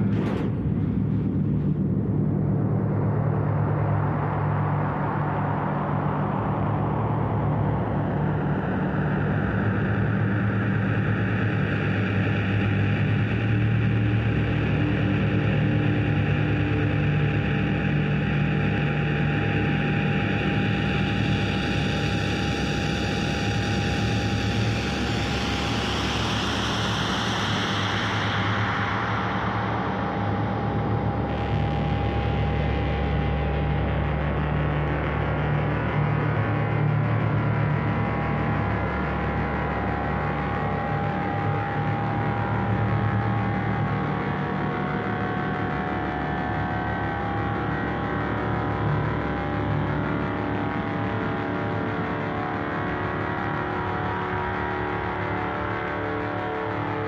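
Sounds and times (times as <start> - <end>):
low synthesizer drone: 0.0 - 10.3, 18.7 - 57.0.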